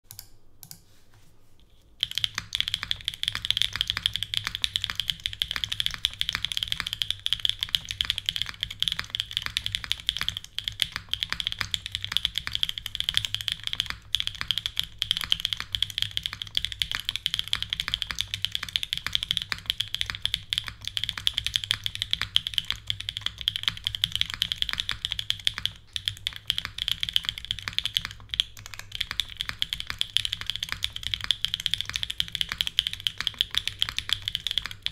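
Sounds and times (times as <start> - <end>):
fast typing on mechanical keyboard: 2.0 - 34.9.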